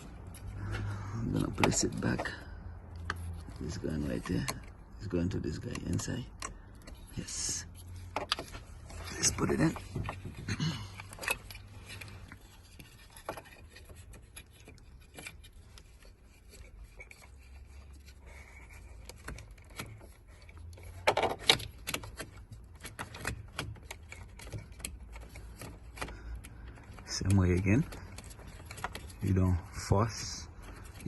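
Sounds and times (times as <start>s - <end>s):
plastic and metal parts clicking: 1.3s - 31.0s.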